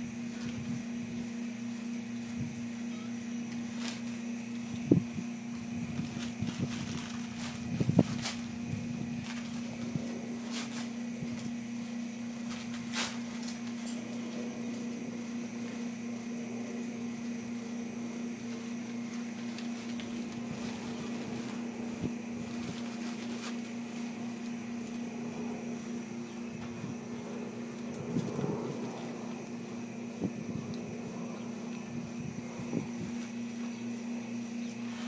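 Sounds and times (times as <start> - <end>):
mechanical hum: 0.0 - 35.0.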